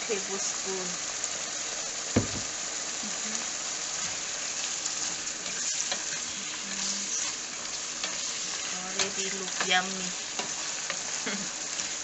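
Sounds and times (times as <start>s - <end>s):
meat and onion sizzling in a pot: 0.0s - 12.0s.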